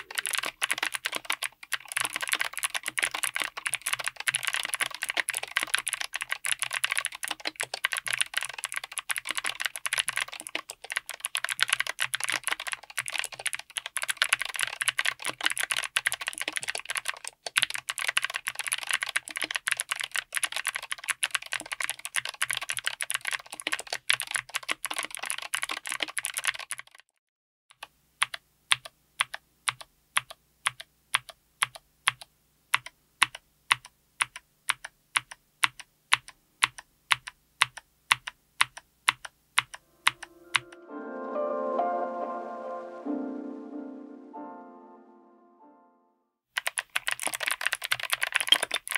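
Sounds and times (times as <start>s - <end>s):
clicky keyboard typing: 0.0s - 27.1s, 27.7s - 40.8s, 46.6s - 48.9s.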